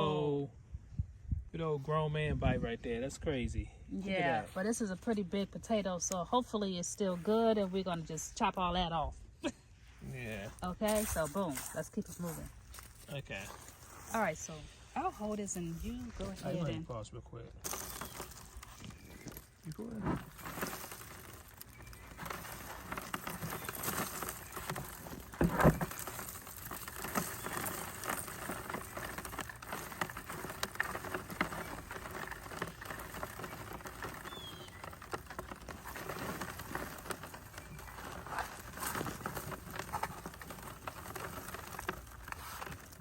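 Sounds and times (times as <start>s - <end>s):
potting soil rustling and crackling: 2.7s - 43.0s.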